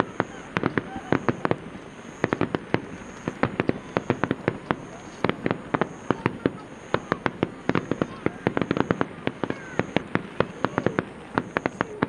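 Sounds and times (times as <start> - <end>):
fireworks cracking and popping: 0.0 - 12.0.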